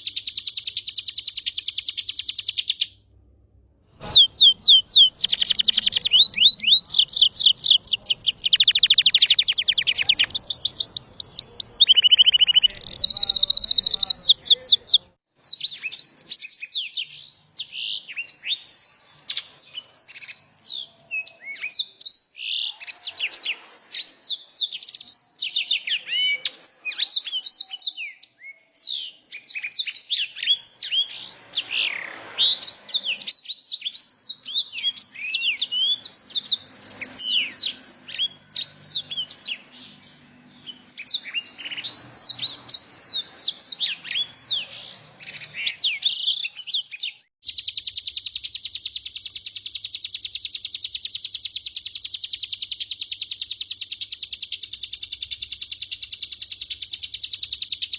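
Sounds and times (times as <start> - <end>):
songbird chirping: 0.0 - 57.9.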